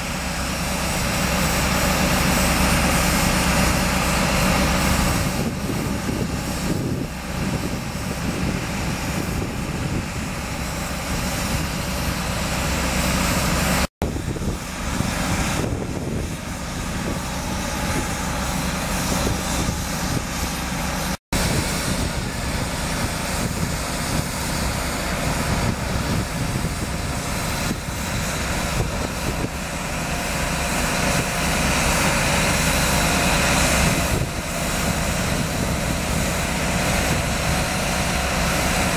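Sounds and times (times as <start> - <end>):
drilling rig engine and drill drone: 0.0 - 38.9.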